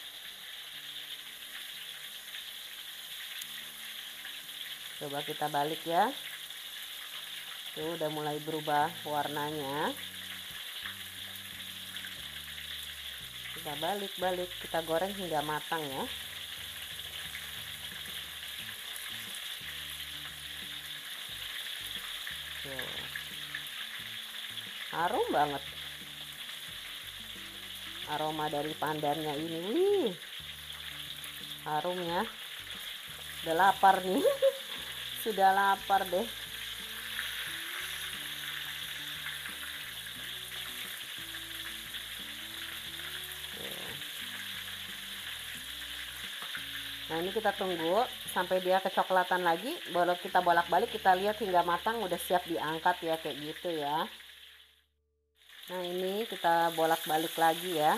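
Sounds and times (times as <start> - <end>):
faint background music: 0.0 - 54.2, 55.6 - 57.9
chicken frying in oil: 0.0 - 54.8, 55.4 - 57.9.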